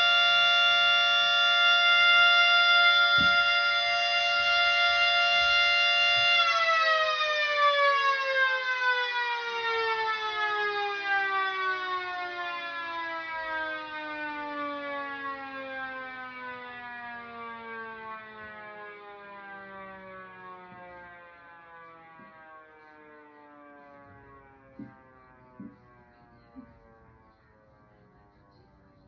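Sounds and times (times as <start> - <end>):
two-tone siren winding down: 0.0 - 29.0.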